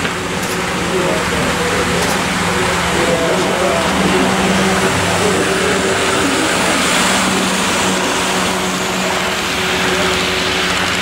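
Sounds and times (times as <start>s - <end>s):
model train wheels rolling on track: 0.0s - 11.0s.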